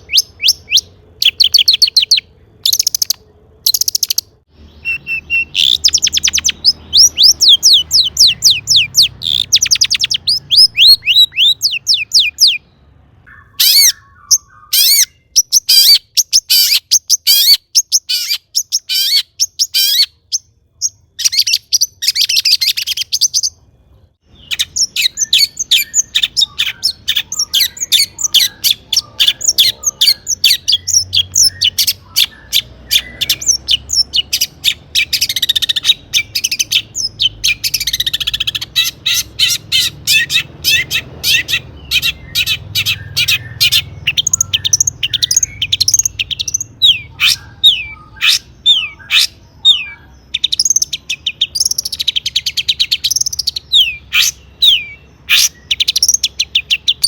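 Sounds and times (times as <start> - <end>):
downward-sweeping bird calls: 0.0 - 23.6, 24.2 - 57.0.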